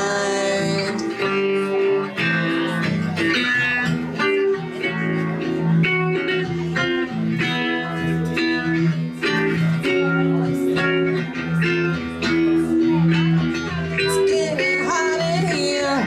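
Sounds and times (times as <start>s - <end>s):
electric guitar through amplifier: 0.0s - 16.0s.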